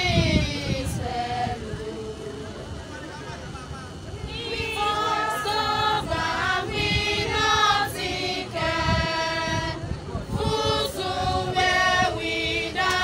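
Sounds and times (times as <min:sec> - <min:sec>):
women's choir singing a hymn: 0:00.0 - 0:02.7, 0:04.2 - 0:13.0.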